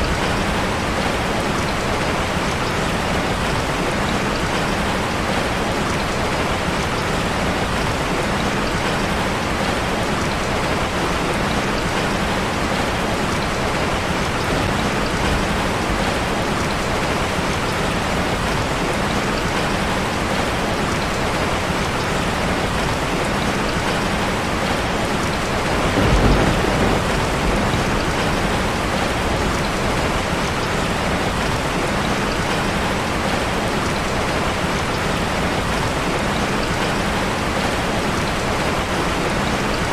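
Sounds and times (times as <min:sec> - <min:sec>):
rain drumming on metal roof: 0:00.0 - 0:39.9.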